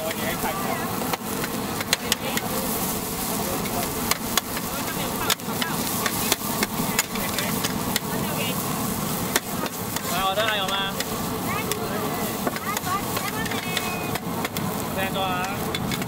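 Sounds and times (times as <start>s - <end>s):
background chatter: 0.0s - 16.0s
food sizzling in a wok: 0.0s - 16.0s.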